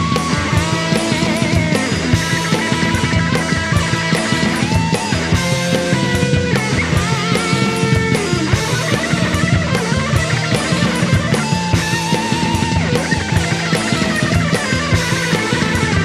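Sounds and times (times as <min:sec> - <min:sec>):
drum kit beat: 0:00.0 - 0:16.0
rock music: 0:00.0 - 0:16.0.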